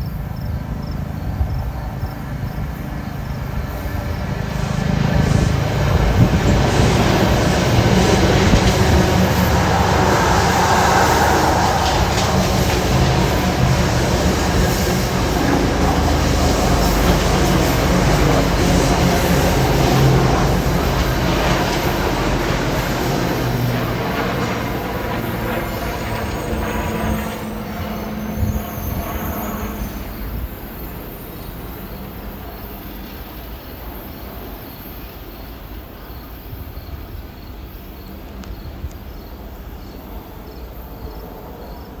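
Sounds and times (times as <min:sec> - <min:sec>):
electric train passing: 0:00.0 - 0:42.0.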